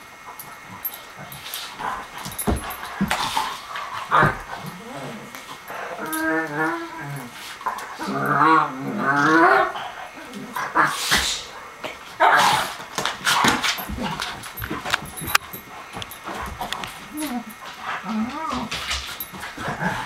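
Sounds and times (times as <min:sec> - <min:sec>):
dogs growling: 0:00.3 - 0:20.0
dogs scuffling: 0:00.4 - 0:09.7, 0:10.3 - 0:20.0.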